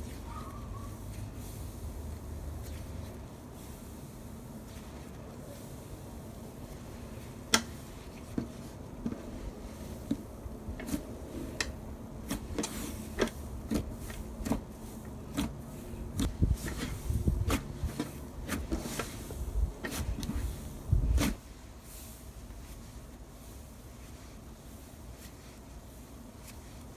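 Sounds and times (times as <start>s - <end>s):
soft slime squishes: 0.0s - 26.9s.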